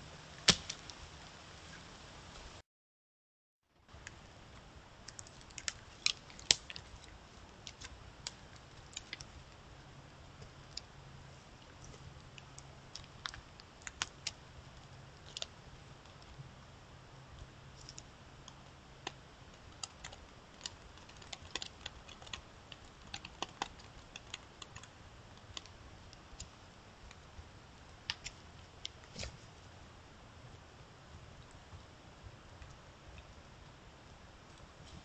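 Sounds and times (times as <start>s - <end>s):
faint background hiss: 3.8s - 35.0s
low steady hum: 3.8s - 35.0s.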